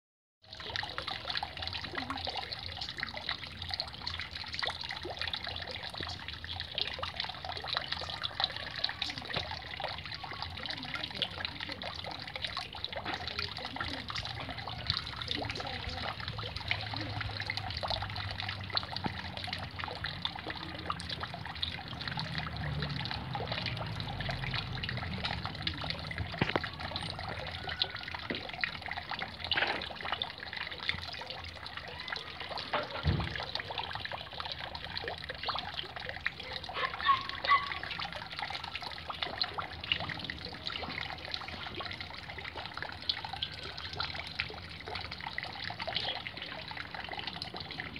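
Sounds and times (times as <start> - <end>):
fountain splashing into pond: 0.4 - 47.9
droplets pattering: 0.5 - 47.9.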